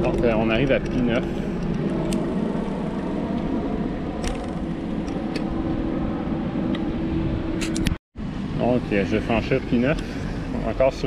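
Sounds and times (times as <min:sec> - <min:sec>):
steady hum: 0:00.0 - 0:11.0
street traffic: 0:00.0 - 0:11.0
wind on microphone: 0:00.0 - 0:11.0.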